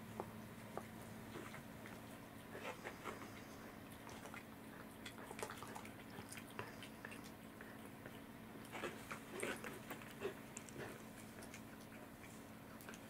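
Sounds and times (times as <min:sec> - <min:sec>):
low steady hum: 0:00.0 - 0:13.0
cat chewing food: 0:00.1 - 0:13.0.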